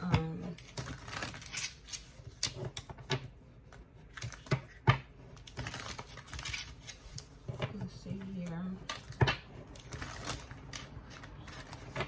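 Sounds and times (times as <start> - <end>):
cards being shuffled: 0.1 - 3.2, 4.1 - 8.3, 8.9 - 12.0.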